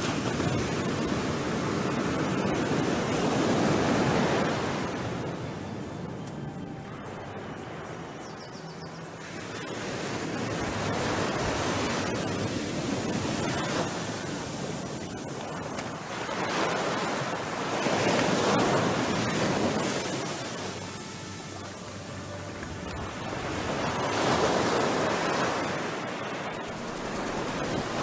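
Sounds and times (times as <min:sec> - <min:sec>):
ocean surf breaking on beach: 0:00.0 - 0:28.0.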